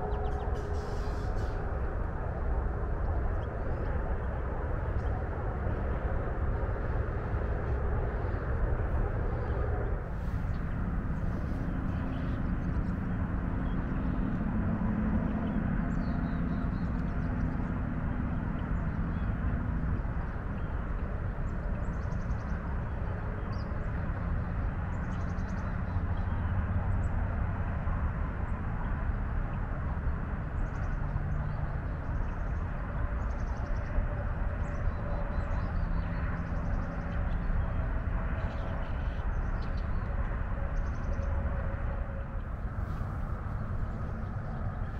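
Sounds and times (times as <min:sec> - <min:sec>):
highway traffic rumble: 0:00.0 - 0:44.9
passing engine hum: 0:00.0 - 0:44.9.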